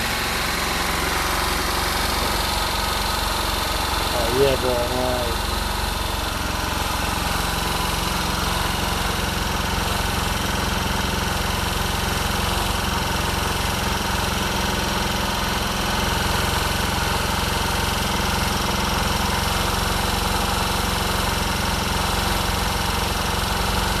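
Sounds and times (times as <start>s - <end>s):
quad bike engine idling: 0.0s - 24.0s.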